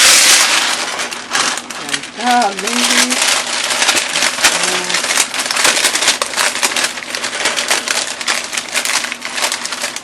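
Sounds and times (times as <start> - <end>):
paper crinkling: 0.0 - 10.0.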